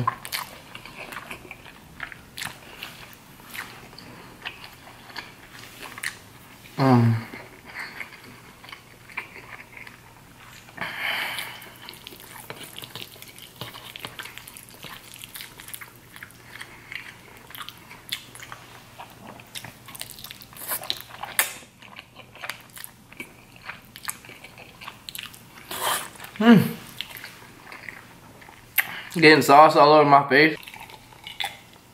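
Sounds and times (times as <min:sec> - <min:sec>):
person chewing food: 0:00.0 - 0:29.2, 0:30.6 - 0:31.9.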